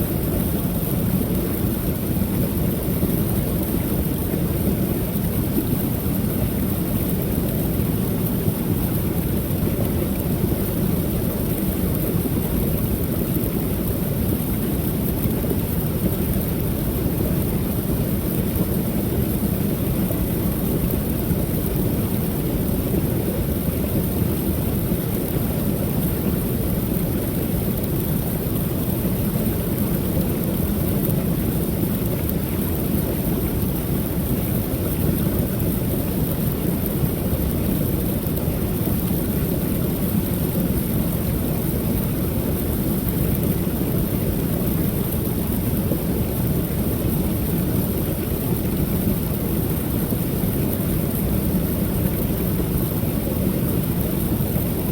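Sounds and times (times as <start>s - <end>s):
water pouring over waterfall: 0.0s - 54.9s.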